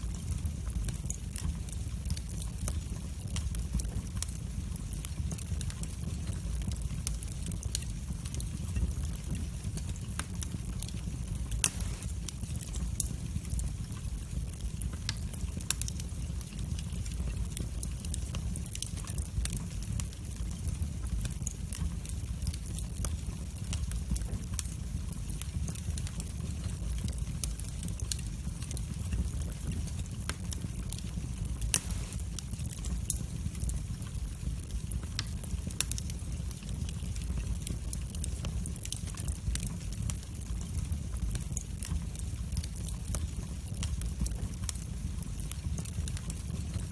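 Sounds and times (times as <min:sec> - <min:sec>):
fire crackling and popping: 0:00.0 - 0:46.9
fire flames rumbling: 0:00.0 - 0:46.9.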